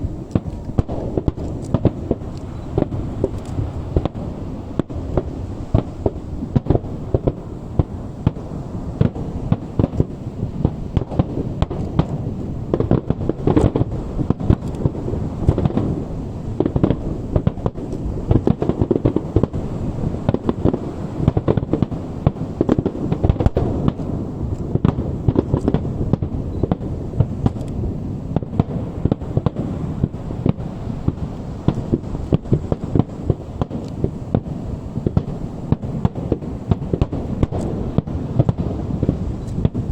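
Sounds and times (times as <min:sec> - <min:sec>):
distant fireworks exploding: 0:00.0 - 0:39.9.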